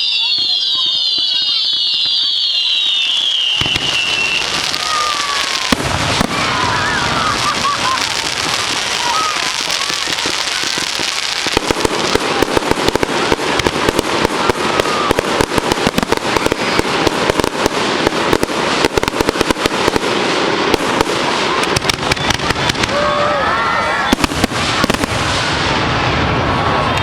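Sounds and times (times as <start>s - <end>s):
fireworks hissing rush: 0.1s - 27.0s
fireworks crackling pops: 2.7s - 27.0s.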